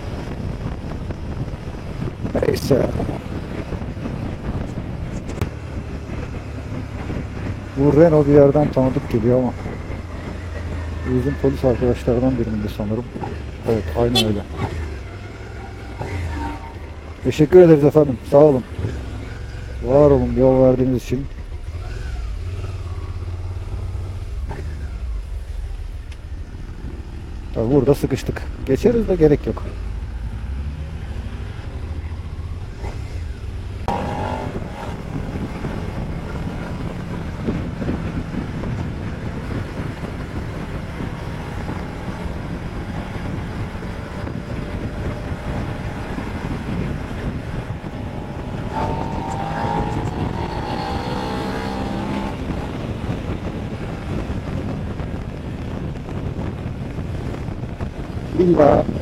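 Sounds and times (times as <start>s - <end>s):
road noise: 0.0s - 59.0s
wind noise: 0.0s - 59.0s.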